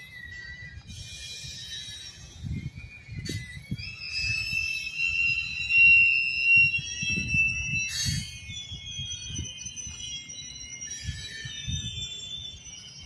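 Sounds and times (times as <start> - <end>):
rumble and clatter on rails: 0.0 - 13.0
train wheels squealing on rails: 0.0 - 13.0.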